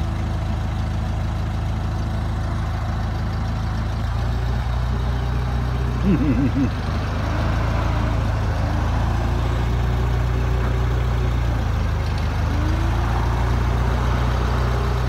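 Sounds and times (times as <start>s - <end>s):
forklift engine running: 0.0s - 15.0s.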